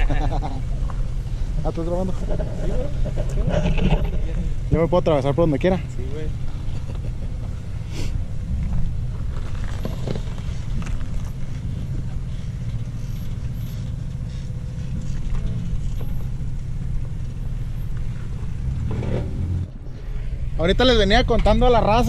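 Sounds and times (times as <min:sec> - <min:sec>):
engine rumbling at low revs: 0:00.0 - 0:22.0.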